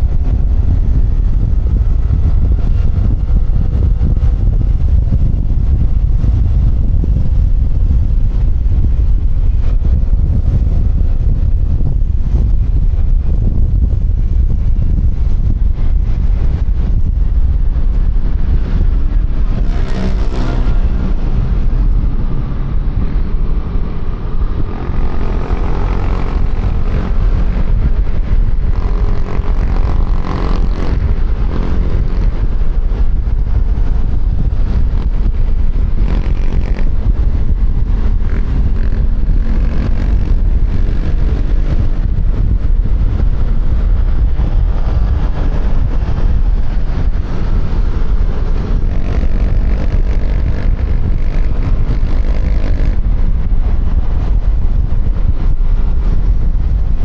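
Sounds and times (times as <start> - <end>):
scooter engine running: 0.0 - 57.0
wind rumble on microphone: 0.0 - 57.0.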